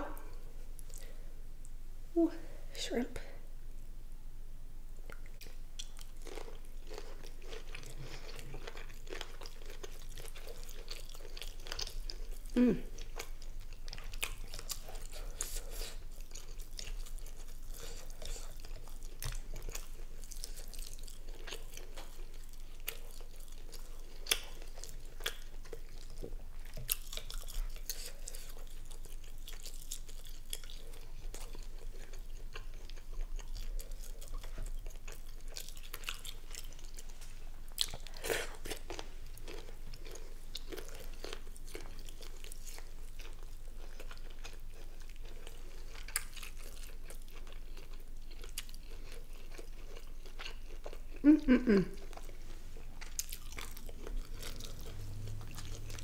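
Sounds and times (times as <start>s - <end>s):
person chewing: 0.1s - 1.2s, 5.0s - 56.0s.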